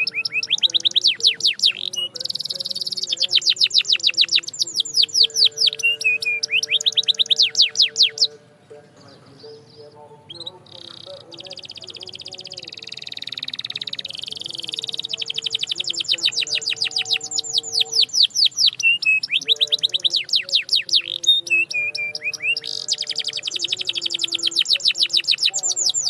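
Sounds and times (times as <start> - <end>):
canary singing: 0.0 - 26.0.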